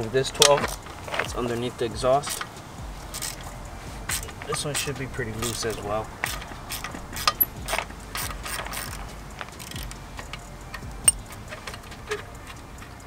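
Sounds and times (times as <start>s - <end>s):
socket ratchet clicking: 0.4s - 13.0s.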